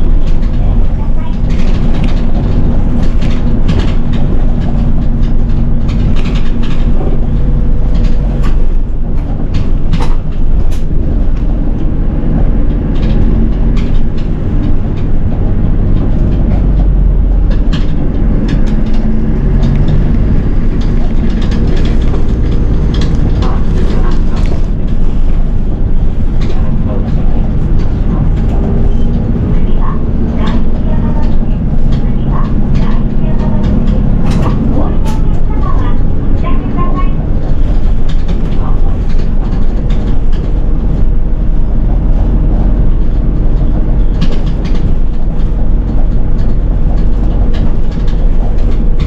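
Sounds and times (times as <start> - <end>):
bus engine hum: 0.0 - 49.0.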